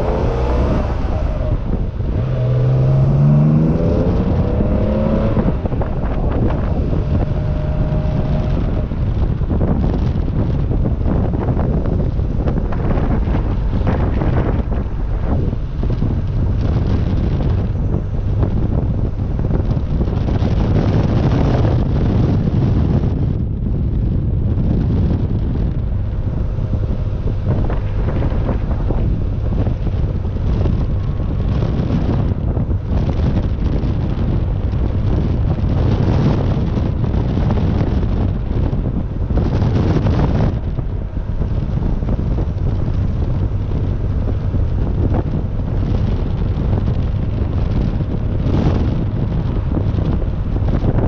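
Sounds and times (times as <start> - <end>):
car engine running: 0.0 - 51.0
wind rushing over microphone: 0.0 - 51.0.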